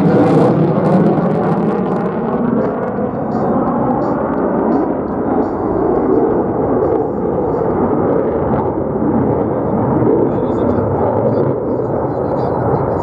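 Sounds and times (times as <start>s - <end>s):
fighter jet roaring overhead: 0.0s - 13.0s.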